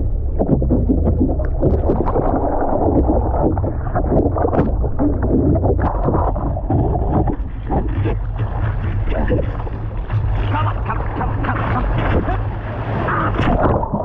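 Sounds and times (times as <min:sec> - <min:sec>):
water sloshing and splashing: 0:00.0 - 0:14.0
wind rumbling on microphone: 0:00.0 - 0:14.0.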